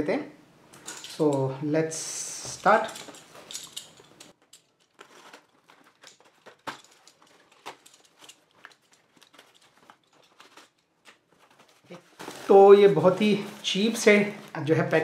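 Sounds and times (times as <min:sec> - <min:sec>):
cardboard parcel rustling and crinkling: 0:02.3 - 0:15.0.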